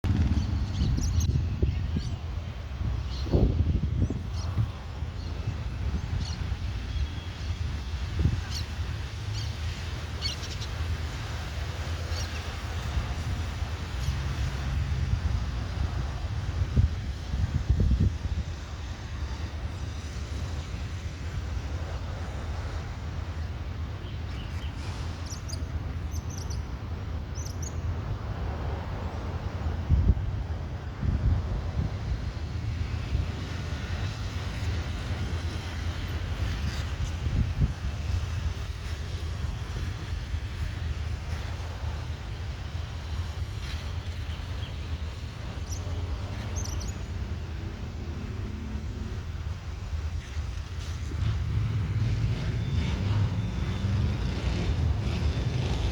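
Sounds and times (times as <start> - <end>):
jet airliner rumble: 0.0 - 55.9
outdoor background noise: 0.0 - 55.9
wind buffeting microphone: 0.0 - 55.9.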